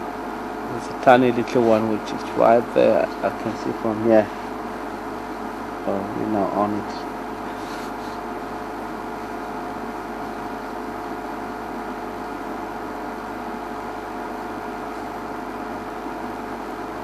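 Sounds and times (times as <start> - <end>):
constant whine: 0.0 - 17.0.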